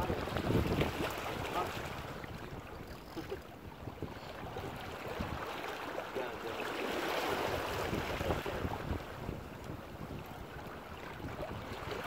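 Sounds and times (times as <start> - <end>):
wind buffeting microphone: 0.0 - 5.6, 7.2 - 12.0
water washing at shoreline: 0.0 - 12.0.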